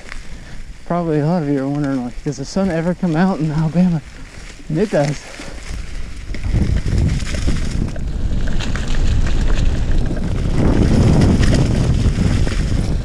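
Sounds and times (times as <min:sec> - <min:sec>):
bike tyres rolling on dirt: 0:00.0 - 0:13.0
wind buffeting microphone: 0:00.0 - 0:13.0.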